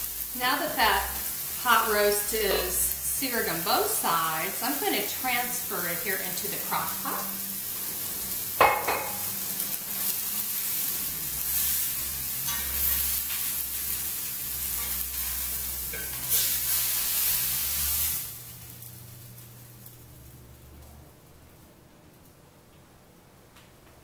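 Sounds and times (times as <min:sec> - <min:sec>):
fat sizzling in pan: 0:00.0 - 0:21.4.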